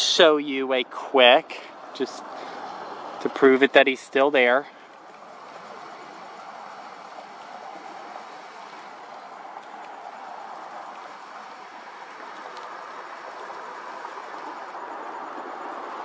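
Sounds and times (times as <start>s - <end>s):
distant road traffic hiss: 0.0s - 16.0s.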